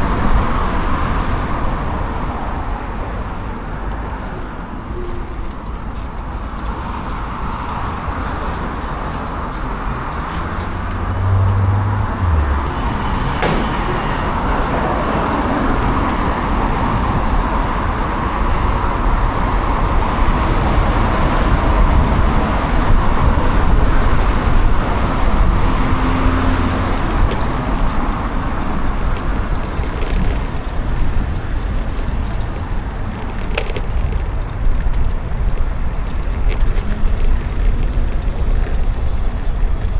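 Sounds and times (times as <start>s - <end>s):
tyre road noise: 0.0s - 39.9s
wind rush over microphone: 4.8s - 39.9s.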